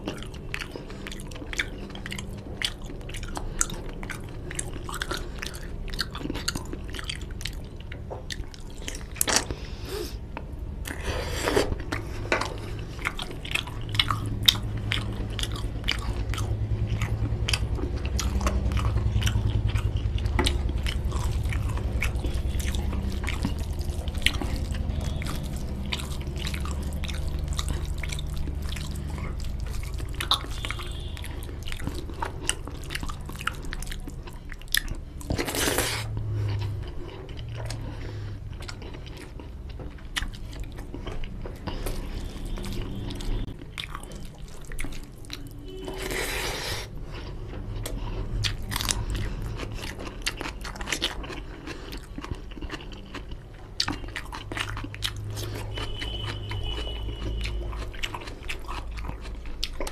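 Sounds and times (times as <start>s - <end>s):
close chewing with wet smacks: 0.0s - 59.9s
food crunching: 0.0s - 59.9s.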